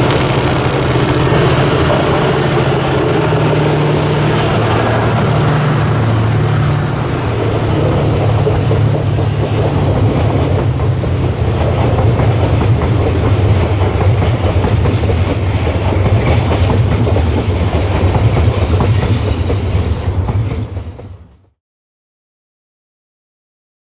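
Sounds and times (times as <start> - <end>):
train wheels clattering over rail joints: 0.0 - 21.5
diesel locomotive drone: 0.0 - 21.6.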